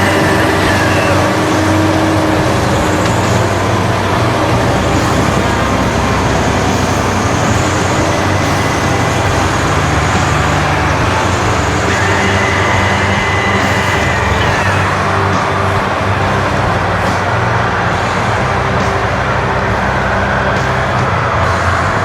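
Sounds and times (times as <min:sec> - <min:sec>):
tracked vehicle engine droning: 0:00.0 - 0:22.0.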